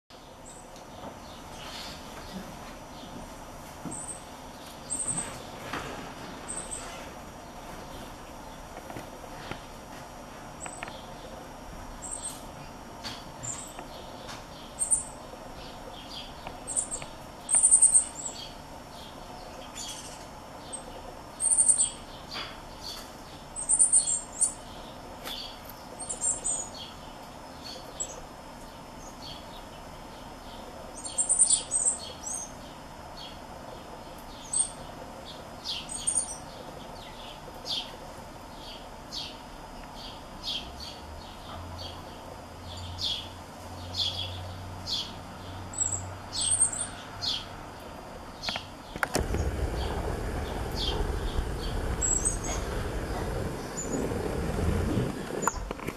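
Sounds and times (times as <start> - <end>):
birds chirping: 0.1 - 5.6, 6.2 - 9.7, 10.5 - 55.9.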